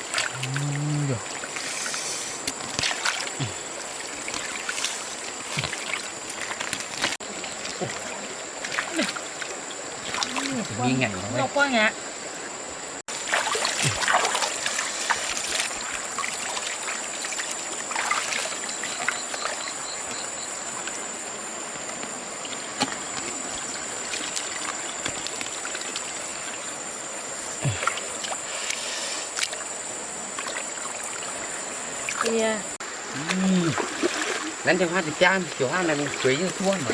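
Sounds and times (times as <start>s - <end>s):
water splashing and trickling: 0.0s - 36.9s.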